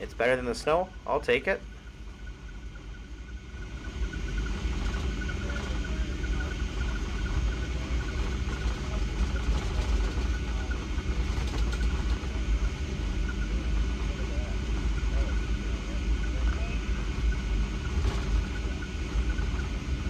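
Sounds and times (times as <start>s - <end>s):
jet engines idling with faint whine: 0.0s - 20.0s
low rumble inside aircraft cabin: 0.0s - 20.0s.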